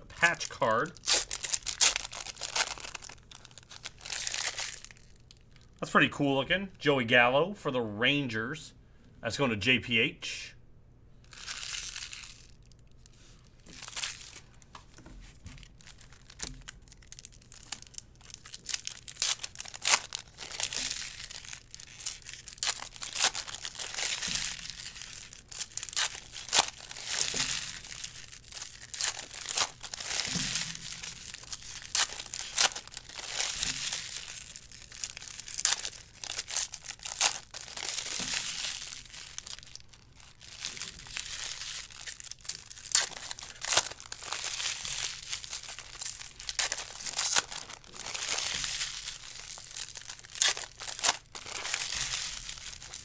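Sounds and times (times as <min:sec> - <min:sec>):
foil packs crinkling and tearing: 0:00.2 - 0:05.7, 0:11.3 - 0:53.0.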